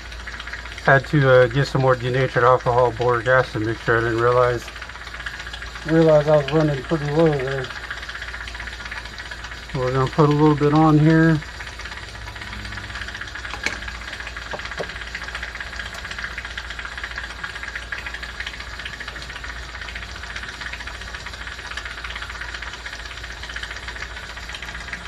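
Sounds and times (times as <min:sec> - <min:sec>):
crackling machine hum: 0:00.0 - 0:25.0.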